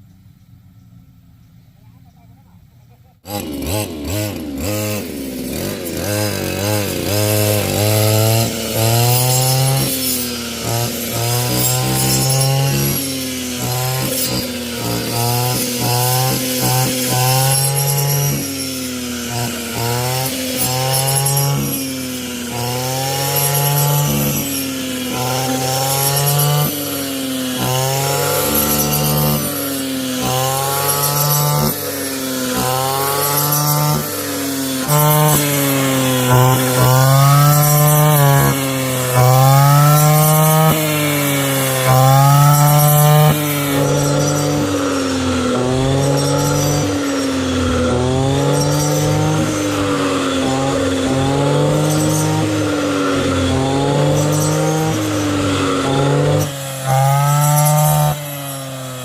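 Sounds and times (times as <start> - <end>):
wood being sawn: 3.3 - 59.0.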